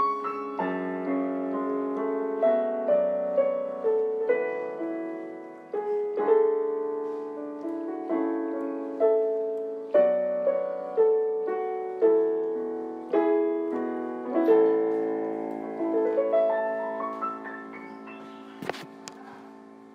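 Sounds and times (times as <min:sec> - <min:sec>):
slow gentle piano music: 0:00.0 - 0:19.9.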